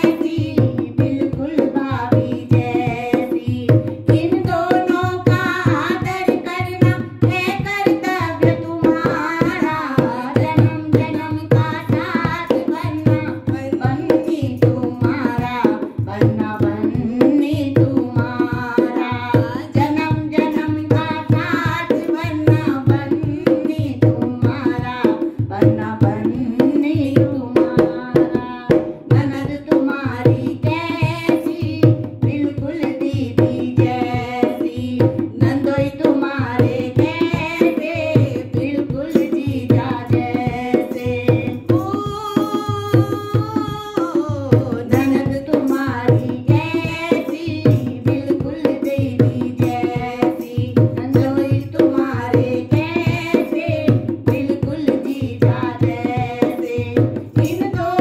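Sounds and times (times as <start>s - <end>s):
hand drum beat: 0.0s - 58.0s
women singing folk song: 0.0s - 58.0s.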